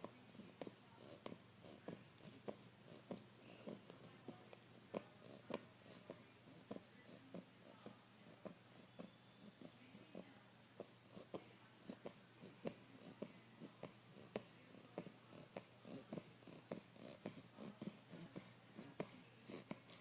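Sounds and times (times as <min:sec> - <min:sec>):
puppy snoring softly: 0:00.0 - 0:20.0.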